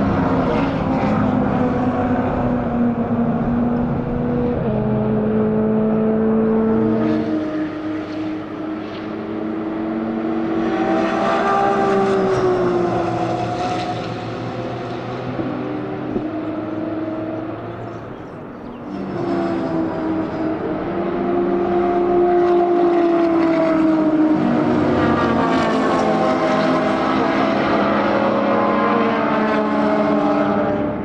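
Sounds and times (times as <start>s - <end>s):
racing car engines accelerating: 0.0s - 31.0s.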